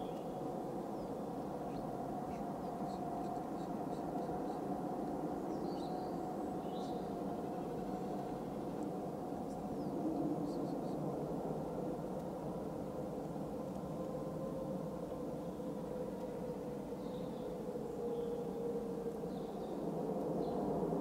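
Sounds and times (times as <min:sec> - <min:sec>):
distant jet engines humming: 0:00.0 - 0:21.0.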